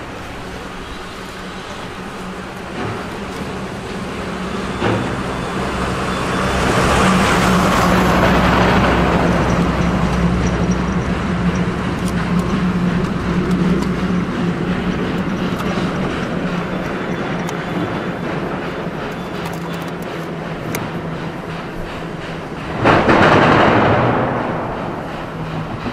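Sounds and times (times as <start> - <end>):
low drone: 0.0 - 25.9
steam locomotive exhaust: 0.0 - 25.9.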